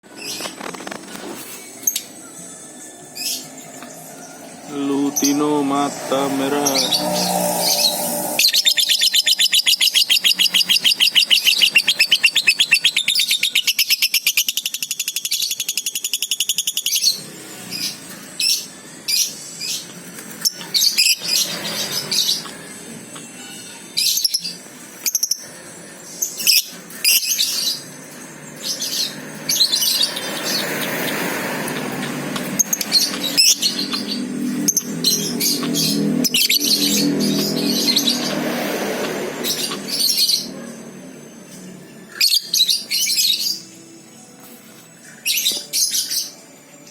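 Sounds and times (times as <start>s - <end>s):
lovebirds chirping: 0.1s - 40.9s.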